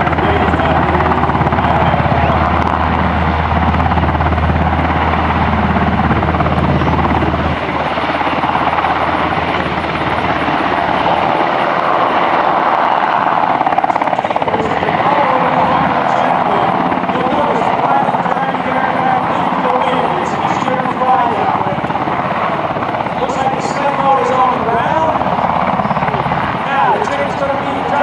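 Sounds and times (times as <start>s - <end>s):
helicopter rotor and turbine noise: 0.0s - 28.0s.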